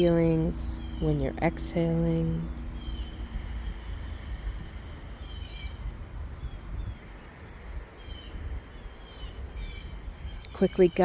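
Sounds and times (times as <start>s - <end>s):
songbirds chirping: 0.0s - 11.0s
steady low rumble: 0.0s - 11.0s.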